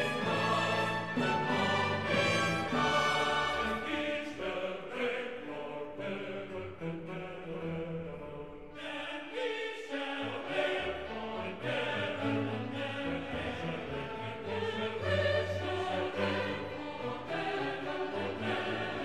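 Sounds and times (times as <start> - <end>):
choir singing long held notes: 0.0 - 19.0.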